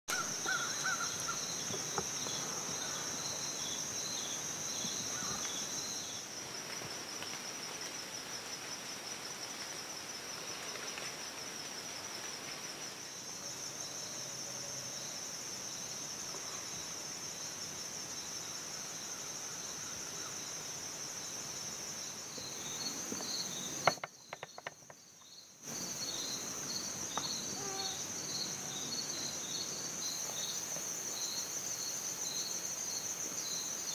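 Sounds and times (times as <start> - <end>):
insects trilling: 0.1 - 33.9
pulsing insect trill: 0.1 - 33.9.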